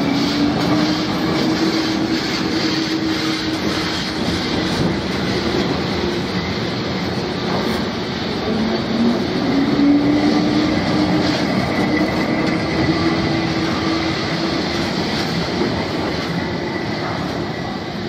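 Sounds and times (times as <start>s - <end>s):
tram low hum: 0.0s - 18.0s
tram wheels rumbling on tracks: 0.0s - 18.0s.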